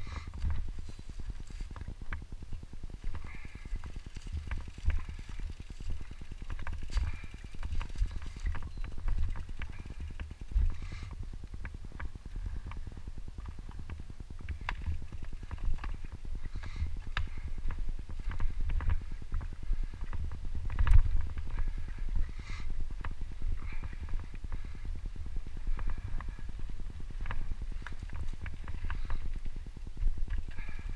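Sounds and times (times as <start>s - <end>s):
bike tyres rumbling on dirt: 0.0s - 30.9s
bike rattling clicks and knocks: 0.1s - 30.9s.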